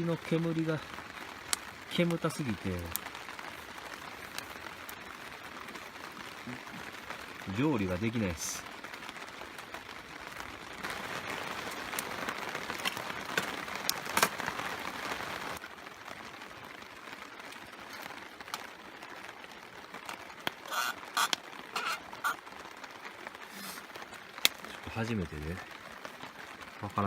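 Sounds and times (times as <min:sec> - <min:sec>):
rain on a tarp: 0:00.0 - 0:27.0
sharp clicks and crackles: 0:00.3 - 0:15.6, 0:17.2 - 0:27.0.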